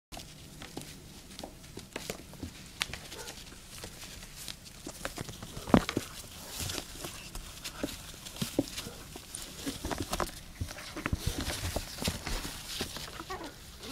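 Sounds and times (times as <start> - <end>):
puppy pads rustling: 0.2 - 13.9
puppy claws scratching plastic: 2.0 - 13.9.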